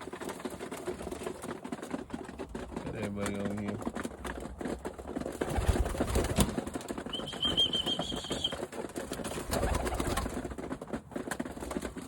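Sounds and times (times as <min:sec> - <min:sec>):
pigeons flapping wings: 0:00.0 - 0:12.0.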